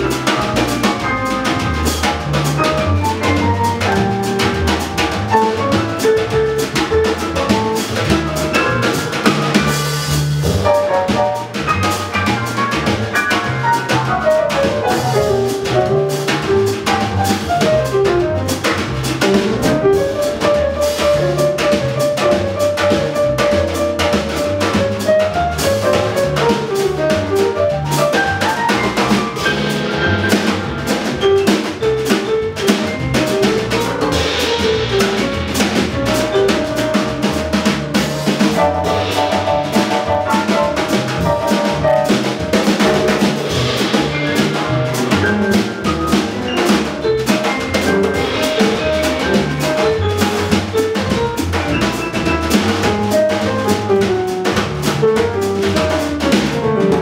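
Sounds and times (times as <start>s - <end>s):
drum kit pattern: 0.0s - 57.0s
piano melody: 0.0s - 57.0s
walking upright bass: 0.0s - 57.0s.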